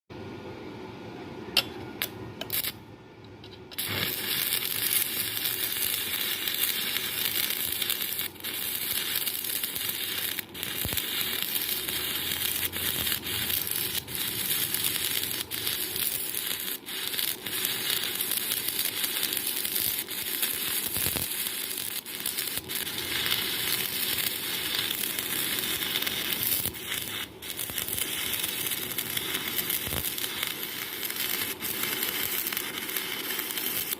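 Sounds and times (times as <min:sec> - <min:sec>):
welding arc crackling: 0:02.4 - 0:02.8, 0:03.7 - 0:33.9.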